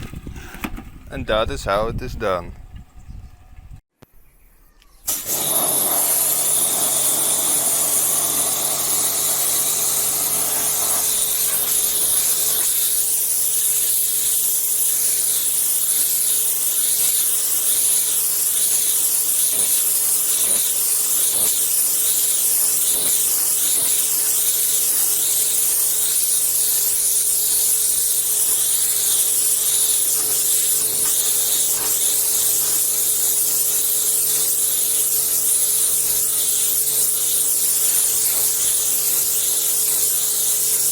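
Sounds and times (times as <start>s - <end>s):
pressure washer spraying: 5.1s - 40.9s.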